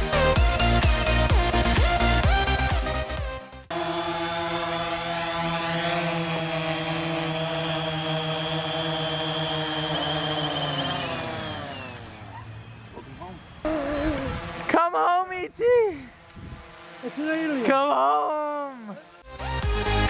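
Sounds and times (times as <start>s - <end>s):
drone propellers buzzing whine: 0.0s - 20.0s.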